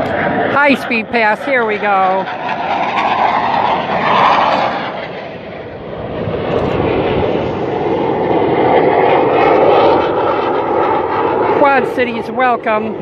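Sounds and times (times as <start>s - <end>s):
jet fly-by rushing roar: 0.0s - 13.0s.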